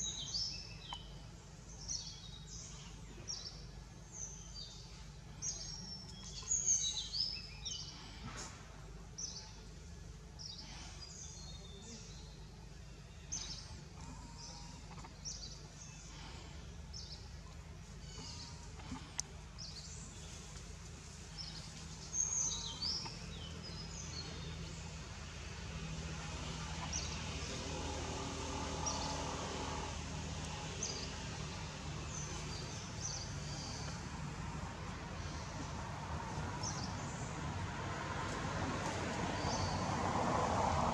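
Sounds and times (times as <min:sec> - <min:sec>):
birds chirping: 0:00.0 - 0:38.3
steady low background noise: 0:00.0 - 0:40.9.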